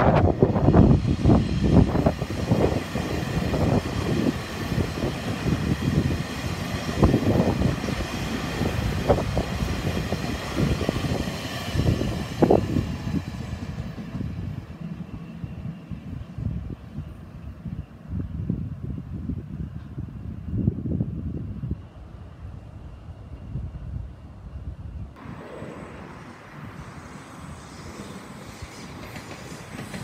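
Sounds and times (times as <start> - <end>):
train passing with rumble: 0.0 - 30.0.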